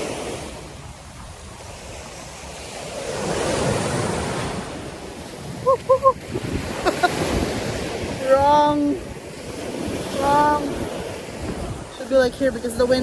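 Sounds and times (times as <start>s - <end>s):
surf washing on beach: 0.0s - 13.0s
wind on microphone: 0.0s - 13.0s.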